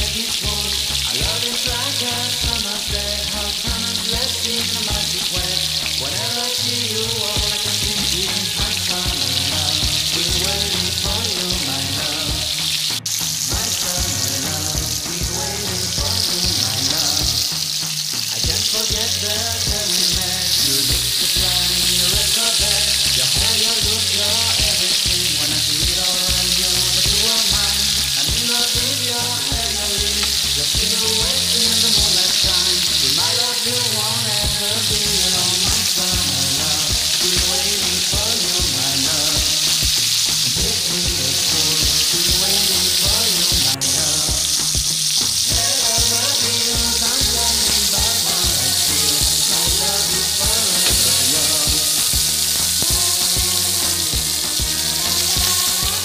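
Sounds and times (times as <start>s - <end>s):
background music: 0.0s - 56.0s
patties sizzling in oil: 0.0s - 56.0s.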